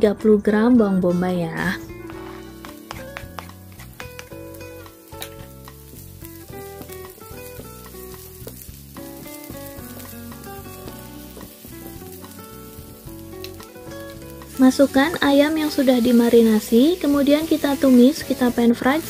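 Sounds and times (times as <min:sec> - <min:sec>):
background melody: 0:00.0 - 0:19.0
garlic and onion sizzling in oil: 0:02.0 - 0:19.0.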